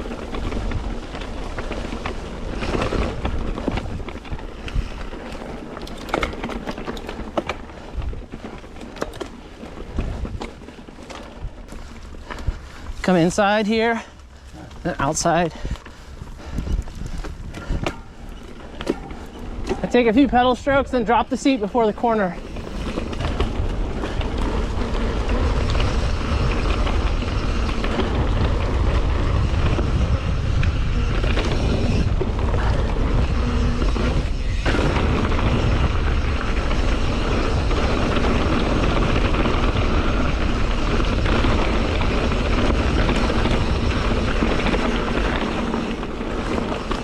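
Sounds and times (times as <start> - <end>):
bike clicks and rattles: 0.0 - 47.0
bike tyres rolling on dirt: 0.0 - 47.0
wind rumbling on microphone: 0.0 - 47.0.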